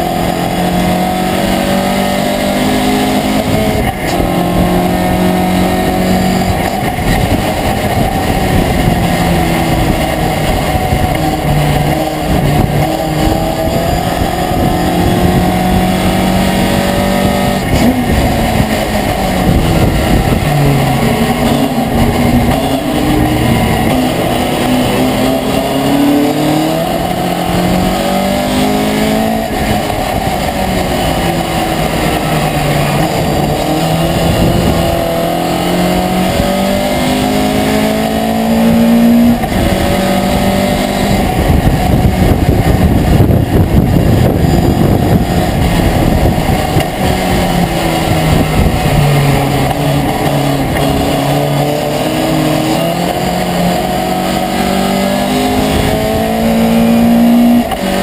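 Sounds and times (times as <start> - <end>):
loud rushing noise: 0.0 - 58.0
truck engine revving: 0.0 - 58.0.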